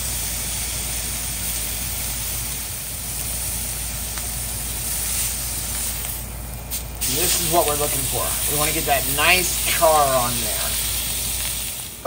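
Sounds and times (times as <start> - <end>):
low steady hum: 0.0 - 12.0
meat sizzling in a pan: 0.0 - 12.0.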